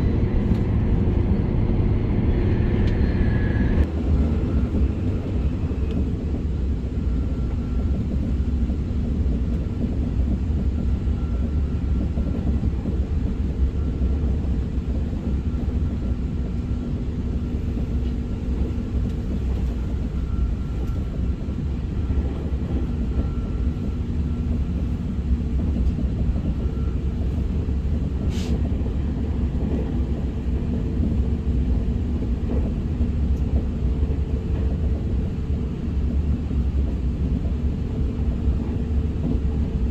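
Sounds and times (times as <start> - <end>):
train cabin low rumble: 0.0 - 39.9.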